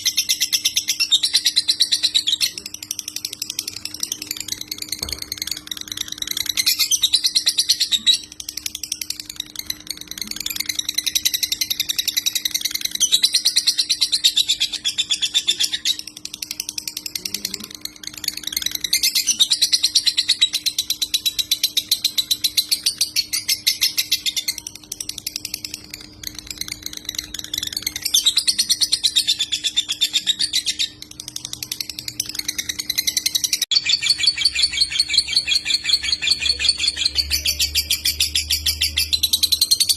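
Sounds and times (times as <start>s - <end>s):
lovebird chattering high chirps: 0.0s - 39.9s.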